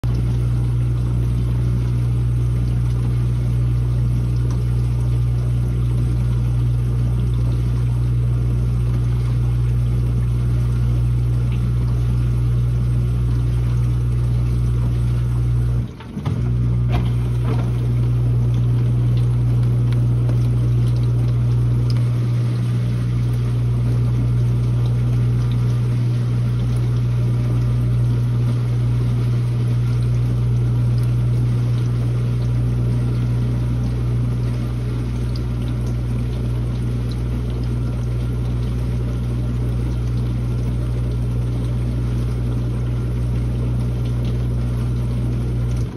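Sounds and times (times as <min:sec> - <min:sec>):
dishwasher running: 0:00.0 - 0:45.9.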